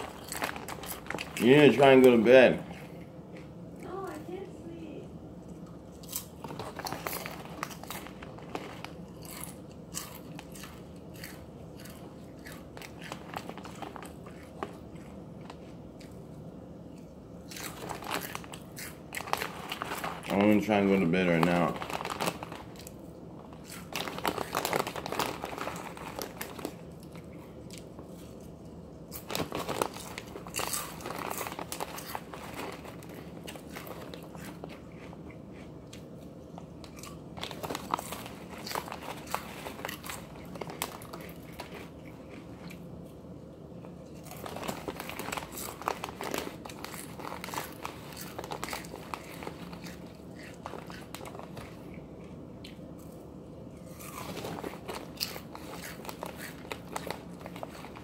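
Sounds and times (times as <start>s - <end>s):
plastic chip bag crinkling: 0.0s - 3.0s, 5.7s - 16.2s, 17.0s - 42.8s, 44.0s - 52.2s, 52.9s - 58.0s
chips being crunched and chewed: 0.0s - 4.0s, 5.5s - 16.3s, 16.9s - 42.8s, 44.0s - 58.0s.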